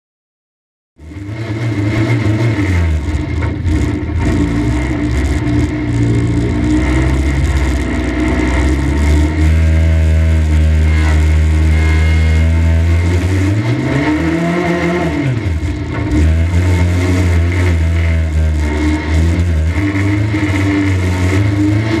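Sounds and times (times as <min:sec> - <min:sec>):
car engine revving: 0:01.0 - 0:22.0.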